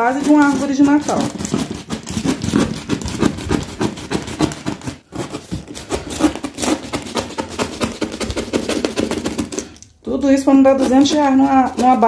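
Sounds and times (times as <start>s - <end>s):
knife cutting cardboard: 0.0s - 9.8s, 10.5s - 12.0s.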